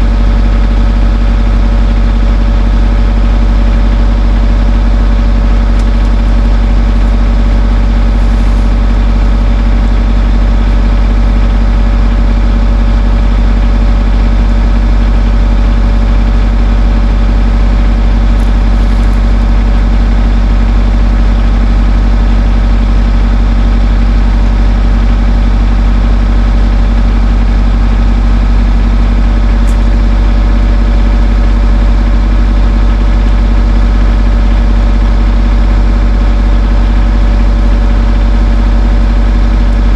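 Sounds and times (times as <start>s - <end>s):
skid steer engine idling: 0.0s - 39.9s.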